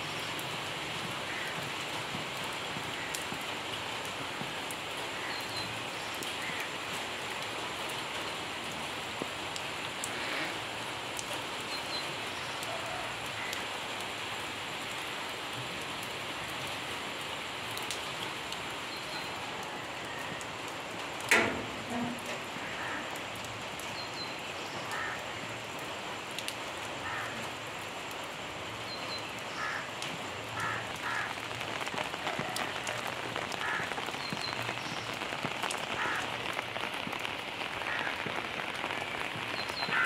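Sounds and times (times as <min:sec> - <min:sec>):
rain falling on puddle: 0:00.0 - 0:40.0.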